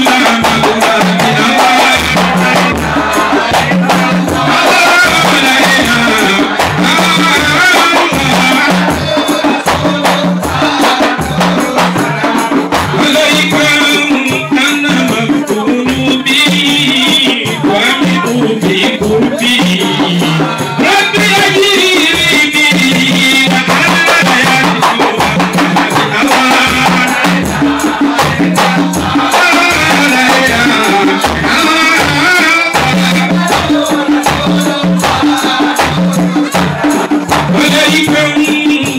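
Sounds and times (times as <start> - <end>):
frame drums beaten by hand: 0.0 - 38.9
man singing into microphone: 0.0 - 38.9.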